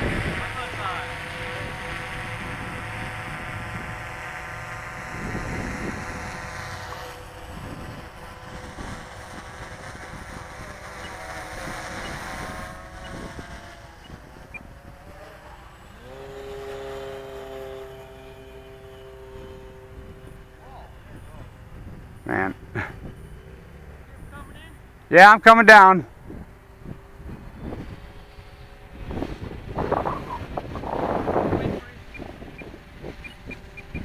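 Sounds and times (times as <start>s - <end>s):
model airplane motors whining: 0.0s - 25.2s, 26.1s - 34.0s.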